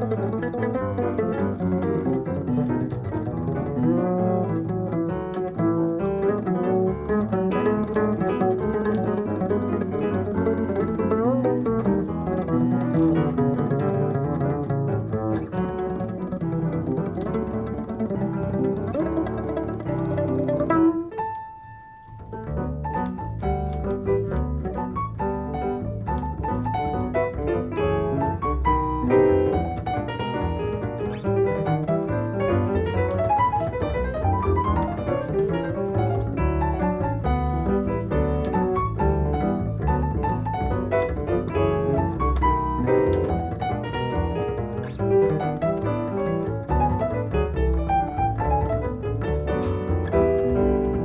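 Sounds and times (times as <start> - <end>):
jazz piano: 0.0 - 51.0
plucked double bass: 0.0 - 51.0.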